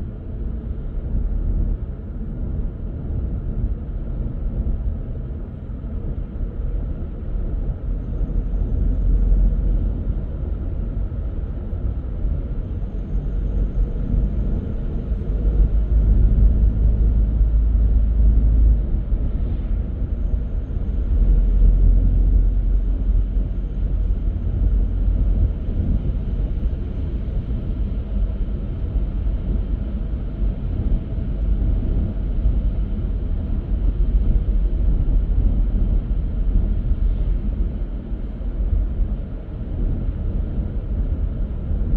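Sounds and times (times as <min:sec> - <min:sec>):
car tyre and engine rumble: 0:00.0 - 0:41.9.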